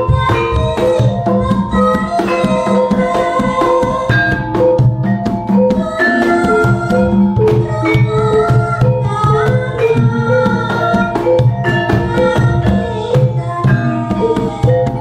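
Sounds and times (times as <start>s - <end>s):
gamelan ensemble playing: 0.0s - 15.0s
hand drum strokes: 0.0s - 15.0s.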